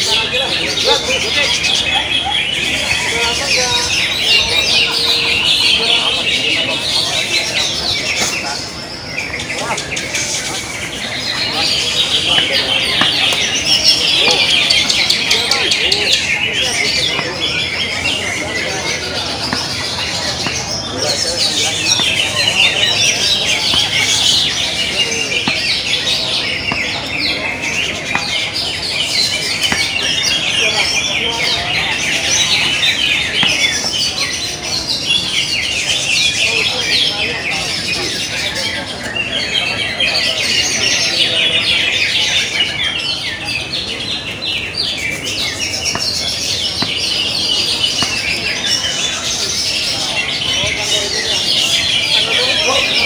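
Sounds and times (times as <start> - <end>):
birds singing with rapid chirps: 0.0 - 53.0.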